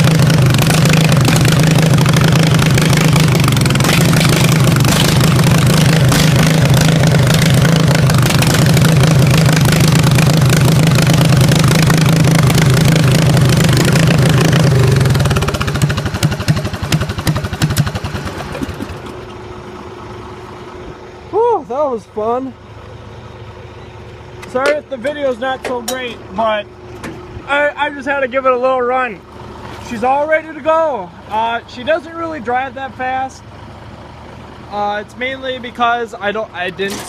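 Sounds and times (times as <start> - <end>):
riding lawnmower engine: 0.0 - 37.0.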